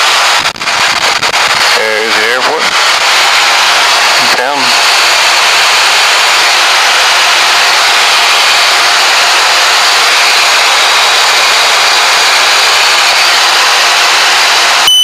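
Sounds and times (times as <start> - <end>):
jet cockpit airflow and engine noise: 0.0 - 15.0.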